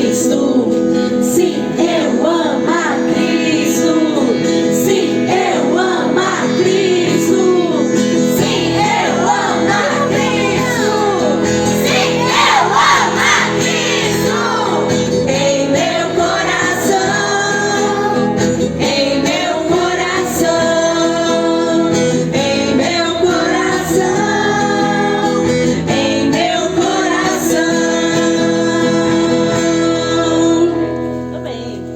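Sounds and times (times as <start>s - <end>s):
children's song with instruments: 0.0s - 29.9s.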